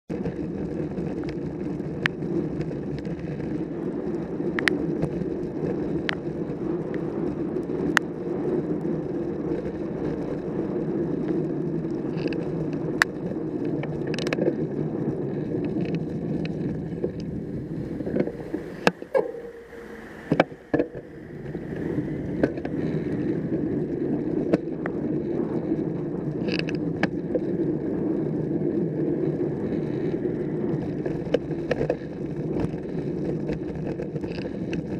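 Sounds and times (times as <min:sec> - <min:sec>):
bike clicks and rattles: 0:00.1 - 0:34.9
wind and road rushing: 0:00.1 - 0:34.9.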